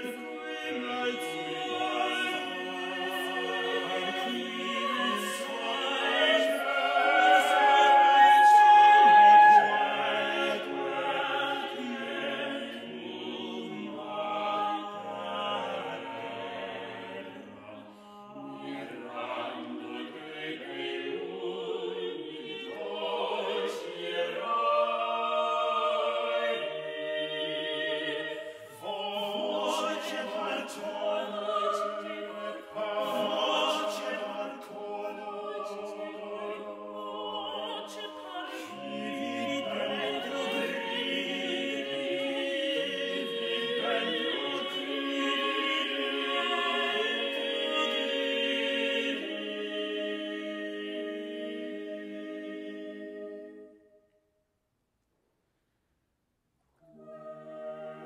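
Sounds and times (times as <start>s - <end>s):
vocal ensemble singing: 0.0s - 53.7s, 56.8s - 58.0s.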